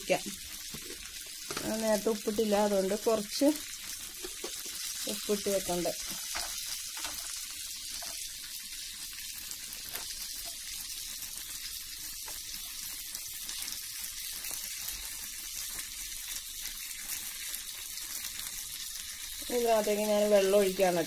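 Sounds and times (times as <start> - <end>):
potato slices sizzling in pan: 0.0 - 21.0.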